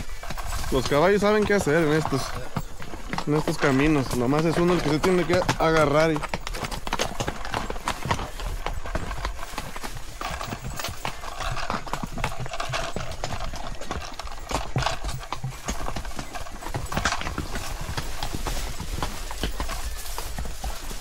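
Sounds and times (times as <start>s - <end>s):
hooves on rocky trail: 0.0s - 21.0s.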